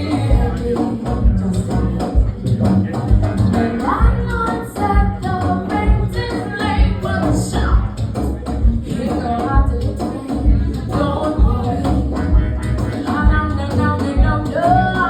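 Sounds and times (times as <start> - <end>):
bass thumps: 0.0 - 15.0
live band music: 0.0 - 15.0
person singing: 0.0 - 15.0.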